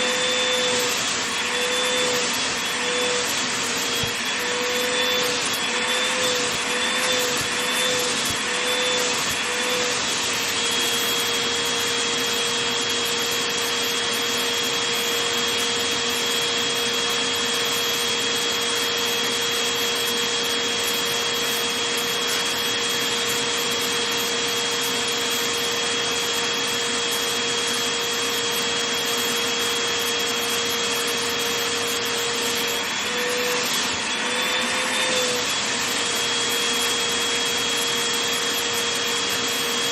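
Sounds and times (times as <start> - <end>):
vacuum cleaner whine and hiss: 0.0 - 39.9.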